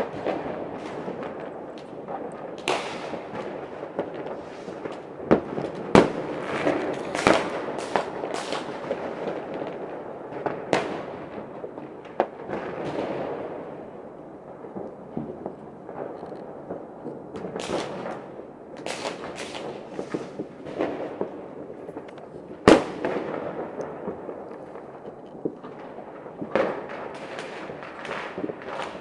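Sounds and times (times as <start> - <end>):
fireworks bangs: 0.0 - 29.0
fireworks crackling: 0.0 - 29.0.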